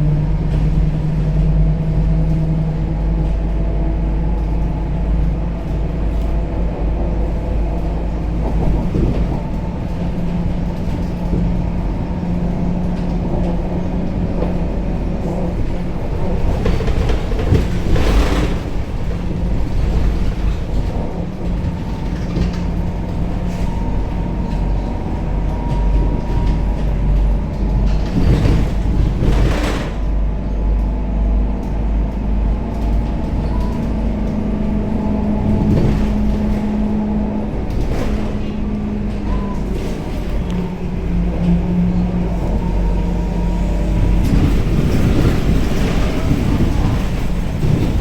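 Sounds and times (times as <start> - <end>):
bus engine and road drone: 0.0 - 48.0
rattling bumps: 0.1 - 30.9, 31.7 - 48.0.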